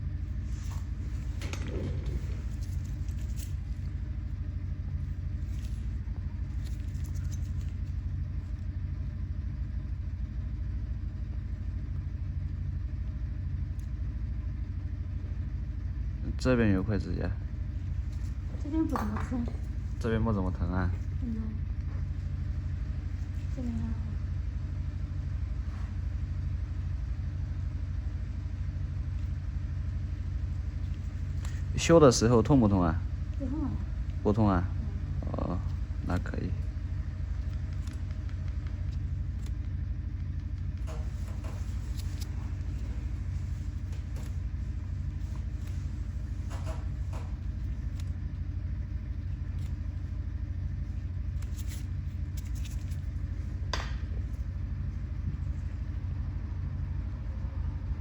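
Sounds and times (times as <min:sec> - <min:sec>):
mechanical hum with flutter: 0:00.0 - 0:58.0.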